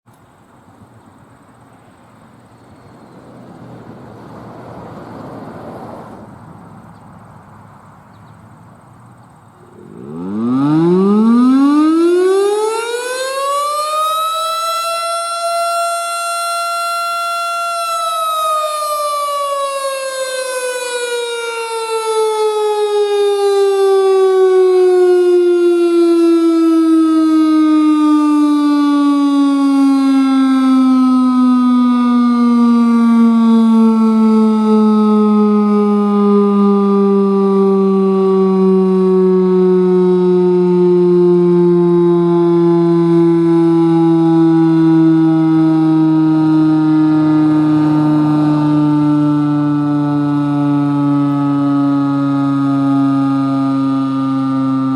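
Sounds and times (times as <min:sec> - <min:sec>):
faint outdoor background noise: 0:00.0 - 0:54.9
outdoor warning siren: 0:09.5 - 0:54.9.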